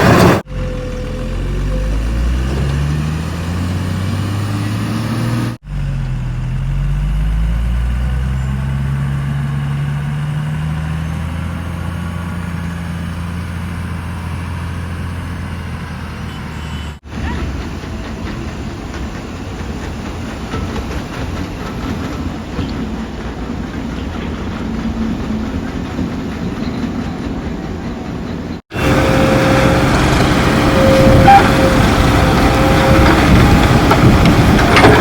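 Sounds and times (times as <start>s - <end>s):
heavy diesel engine running: 0.0s - 35.0s
rough noisy engine: 0.0s - 35.0s.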